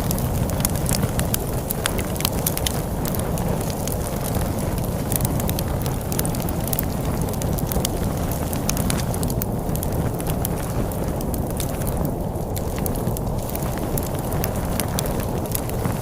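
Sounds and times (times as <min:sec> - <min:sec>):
storm wind rumbling: 0:00.0 - 0:16.0
wood fire crackling: 0:00.0 - 0:16.0.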